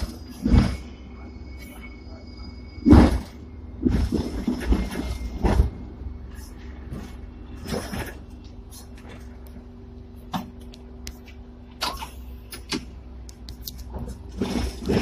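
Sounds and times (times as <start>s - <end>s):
tram rumble and hum: 0.0s - 15.0s.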